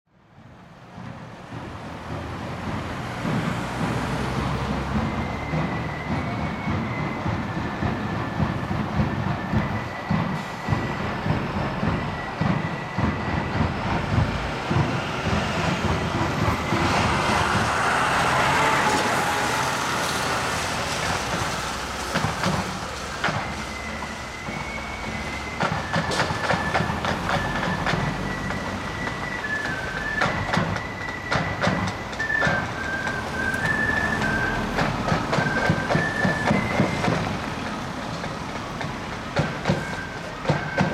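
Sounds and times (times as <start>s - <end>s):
marching drums: 0.3s - 40.9s
high held melody: 4.5s - 40.9s.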